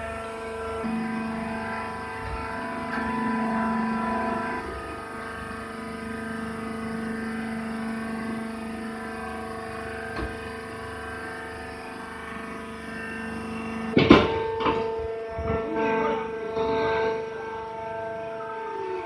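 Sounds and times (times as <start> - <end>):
baler machine hum: 0.0 - 19.0.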